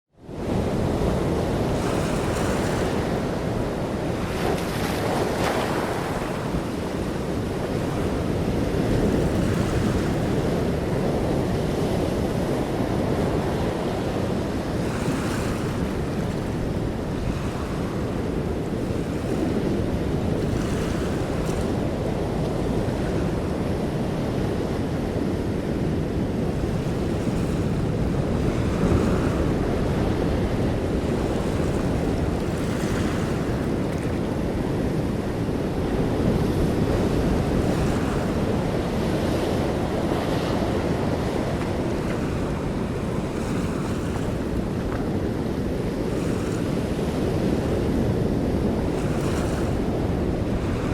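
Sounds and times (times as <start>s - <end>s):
wind rumbling on microphone: 0.1s - 50.9s
waves washing: 0.2s - 50.9s.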